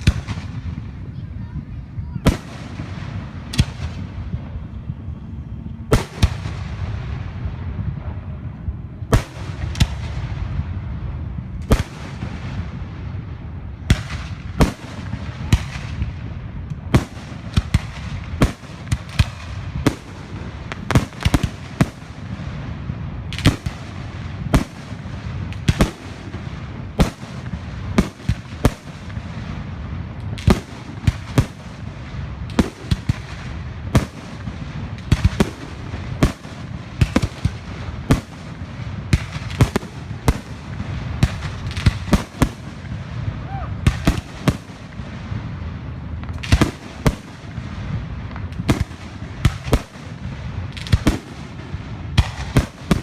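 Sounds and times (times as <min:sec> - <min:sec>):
continuous low rumble: 0:00.0 - 0:53.0
fireworks exploding with echo: 0:00.0 - 0:53.0.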